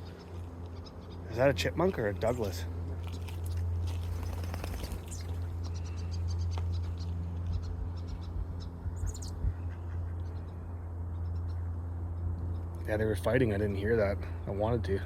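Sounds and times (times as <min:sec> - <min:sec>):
small birds chirping: 0:00.0 - 0:12.9
steady low hum: 0:00.0 - 0:15.0.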